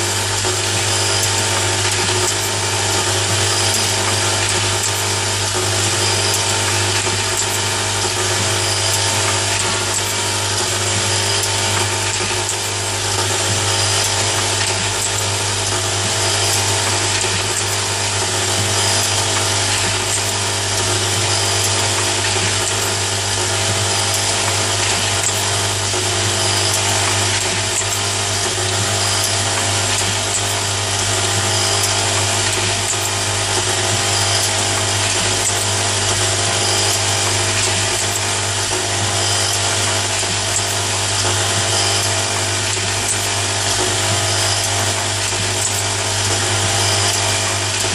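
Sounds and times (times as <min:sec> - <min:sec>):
machine motors humming: 0:00.0 - 0:47.9.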